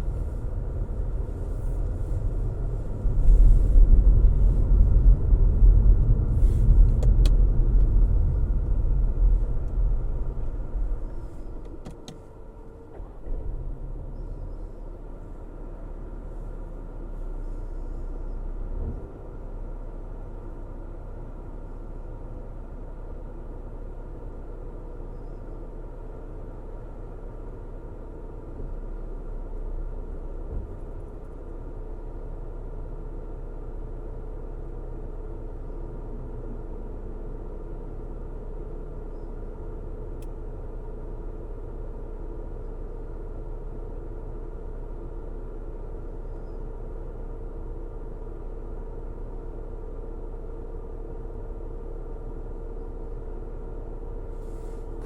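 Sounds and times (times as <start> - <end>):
car road and engine rumble: 0.0 - 55.0
faint steady hum: 0.0 - 55.0.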